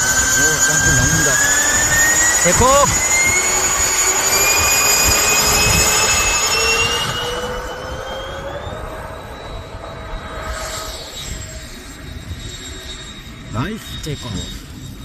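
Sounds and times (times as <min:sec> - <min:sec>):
model jet fans whining: 0:00.0 - 0:15.0.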